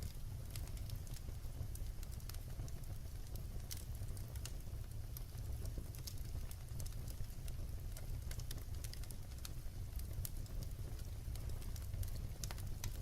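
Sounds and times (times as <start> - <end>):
low rumble of flame: 0.0 - 13.0
wood fire crackling and popping: 0.0 - 13.0.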